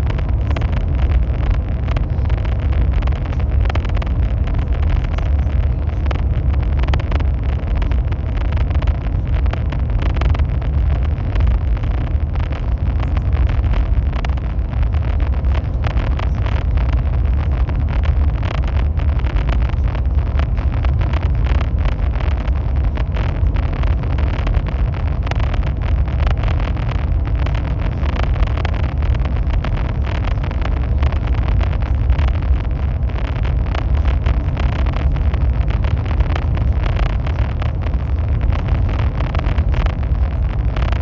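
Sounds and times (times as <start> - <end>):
high-speed train rumbling: 0.0 - 41.0.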